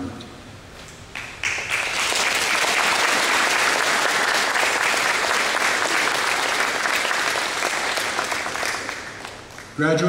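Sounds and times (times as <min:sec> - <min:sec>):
audience applauding: 0:01.1 - 0:09.8.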